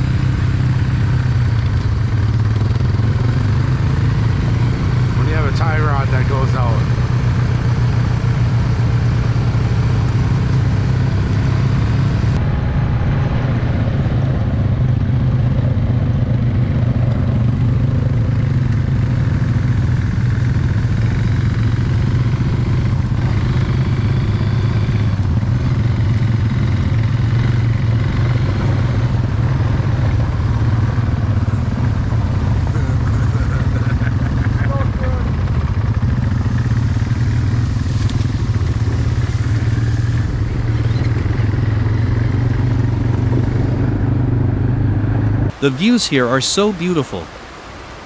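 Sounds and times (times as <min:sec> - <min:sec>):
off-road vehicle engine running: 0:00.0 - 0:45.6.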